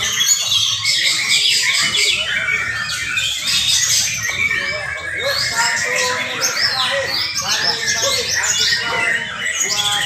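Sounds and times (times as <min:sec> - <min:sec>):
birds chirping trilling and whistling: 0:00.0 - 0:10.0.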